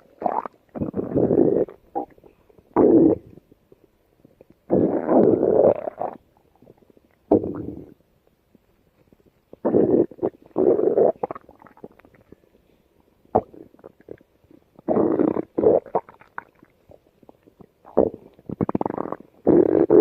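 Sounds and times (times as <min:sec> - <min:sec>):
stomach growling: 0:00.0 - 0:12.5, 0:13.3 - 0:20.0.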